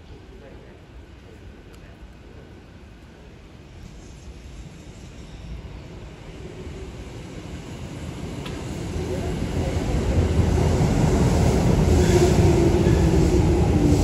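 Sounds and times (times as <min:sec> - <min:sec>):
electric train rumble: 0:02.4 - 0:14.0.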